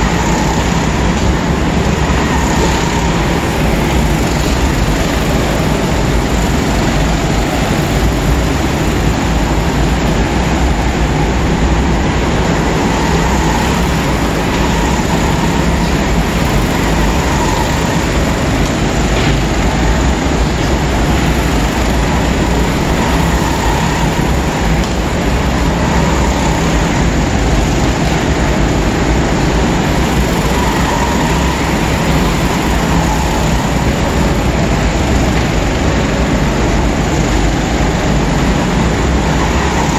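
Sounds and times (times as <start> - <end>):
go-kart engines droning: 0.0 - 39.9
passing kart engine notes: 0.0 - 39.9.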